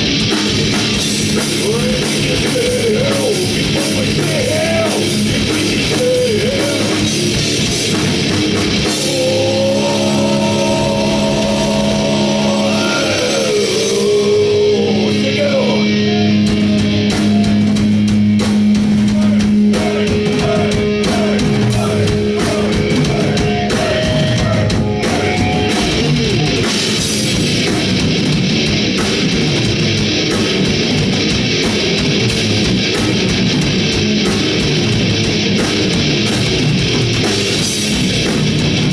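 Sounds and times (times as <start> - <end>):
drums: 0.0 - 38.9
electric guitars: 0.0 - 38.9
heavy metal band playing live: 0.0 - 38.9.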